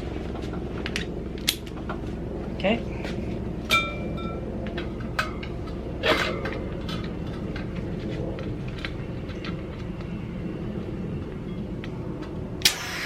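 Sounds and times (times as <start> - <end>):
air compressor rumbling: 0.0 - 13.0.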